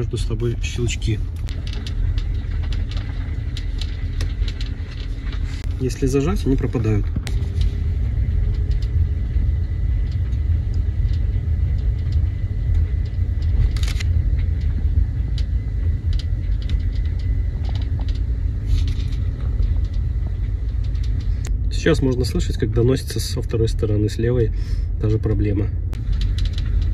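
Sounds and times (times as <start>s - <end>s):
low road rumble inside car: 0.0s - 26.9s.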